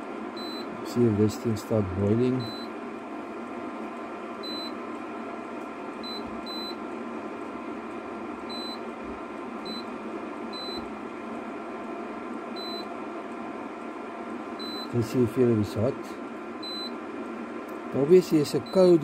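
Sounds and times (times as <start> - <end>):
cooling fan whir: 0.0 - 19.0.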